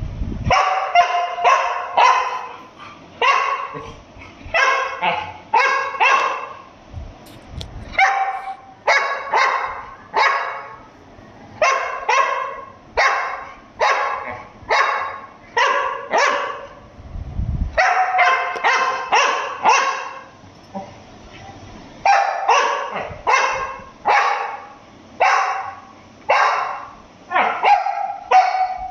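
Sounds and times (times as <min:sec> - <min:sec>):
dog barking: 0:00.5 - 0:03.9, 0:04.5 - 0:06.7, 0:08.0 - 0:10.8, 0:11.6 - 0:16.8, 0:17.8 - 0:20.9, 0:22.0 - 0:28.9.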